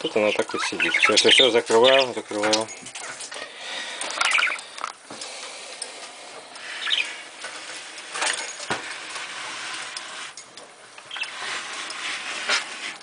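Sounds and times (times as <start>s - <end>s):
birds rustling and scratching: 0.0s - 13.0s.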